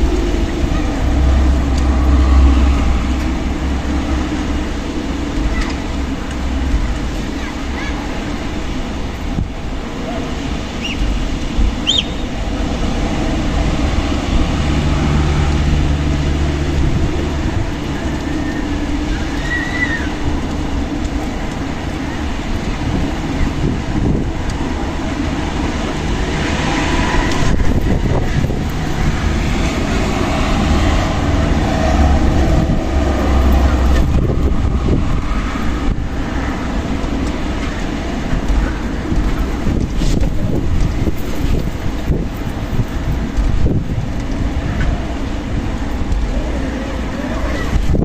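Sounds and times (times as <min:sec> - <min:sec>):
strong wind buffeting microphone: 0:00.0 - 0:48.0.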